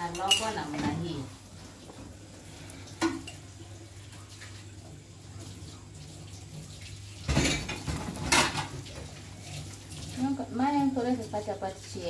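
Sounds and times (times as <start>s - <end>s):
oil sizzling in pan: 0.0s - 12.0s.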